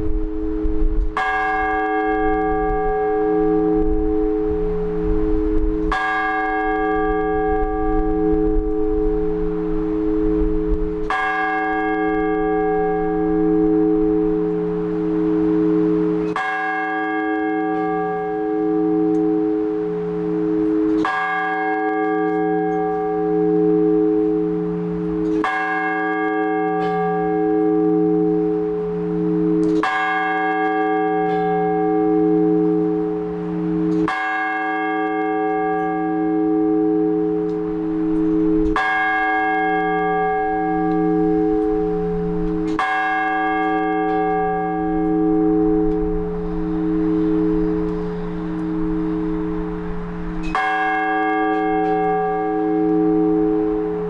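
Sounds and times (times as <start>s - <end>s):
large church bell ringing: 0.0s - 54.0s.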